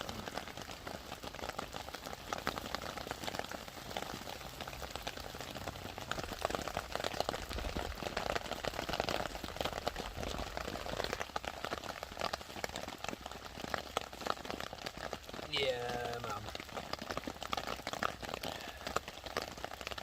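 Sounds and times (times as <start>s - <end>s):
burger sizzling in frying pan: 0.0s - 20.0s.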